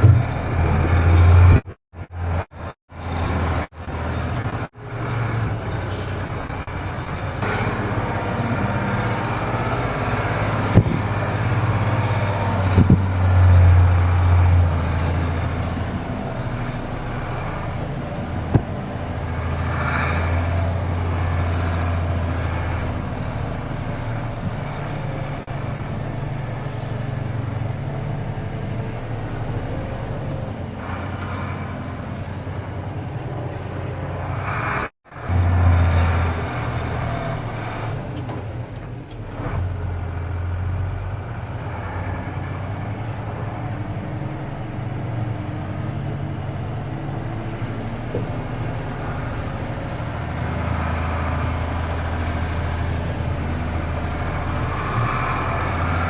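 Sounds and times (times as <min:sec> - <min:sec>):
diesel truck engine under load: 0:00.0 - 0:56.0.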